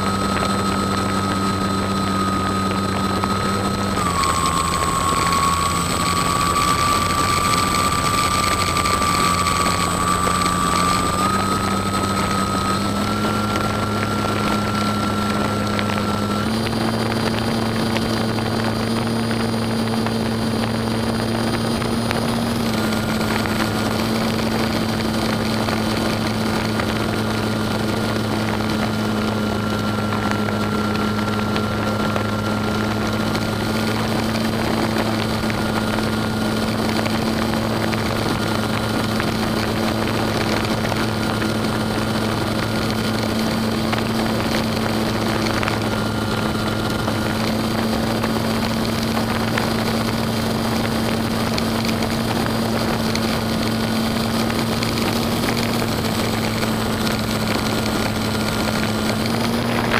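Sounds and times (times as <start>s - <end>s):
model plane motor droning: 0.0s - 59.9s.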